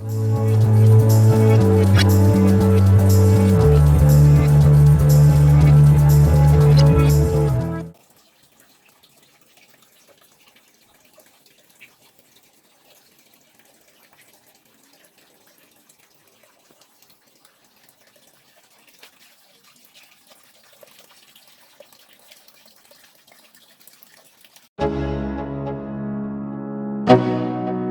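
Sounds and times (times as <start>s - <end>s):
water dripping and trickling: 0.0s - 24.8s.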